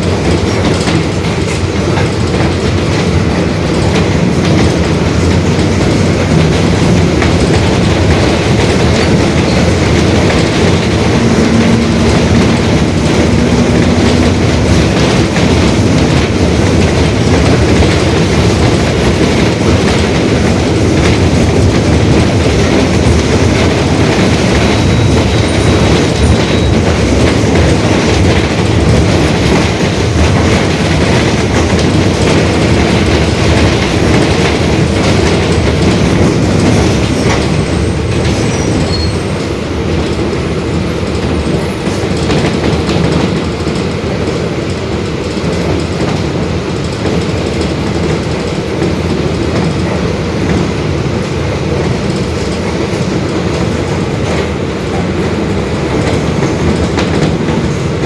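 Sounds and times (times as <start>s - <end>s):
bus body rattling: 0.0s - 58.0s
bus diesel engine running: 0.0s - 58.0s.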